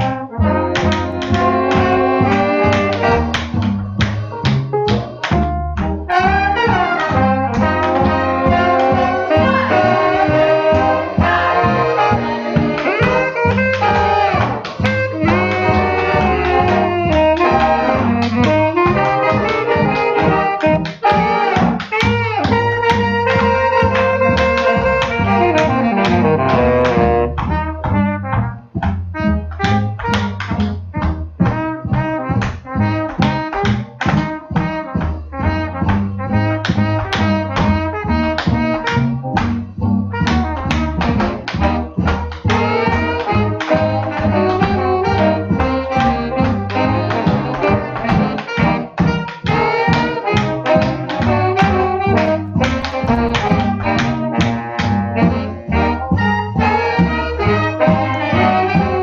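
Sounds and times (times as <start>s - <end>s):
swing jazz band playing: 0.0s - 59.0s.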